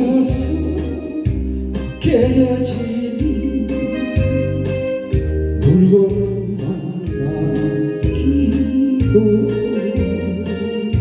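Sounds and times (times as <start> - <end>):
bass and drums beat: 0.0 - 11.0
man singing a ballad: 0.0 - 11.0.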